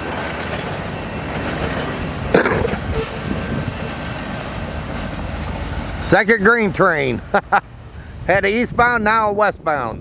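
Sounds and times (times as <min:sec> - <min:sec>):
railcars rumbling past: 0:00.0 - 0:10.0.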